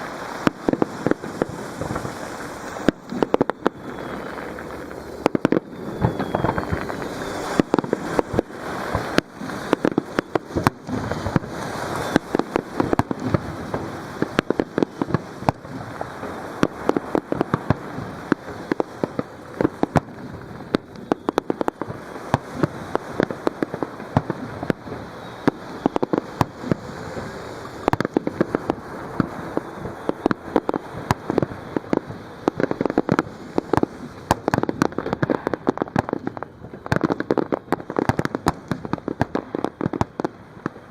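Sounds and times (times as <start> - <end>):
fireworks bursting and crackling: 0.0 - 40.9
waves breaking on shore: 0.0 - 40.9.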